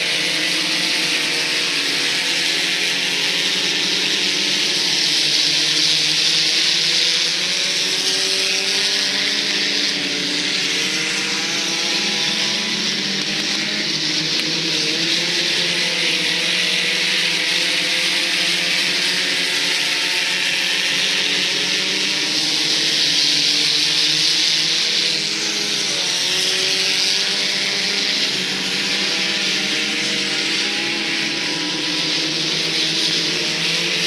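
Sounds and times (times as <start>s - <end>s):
race car engines droning past: 0.0s - 34.0s.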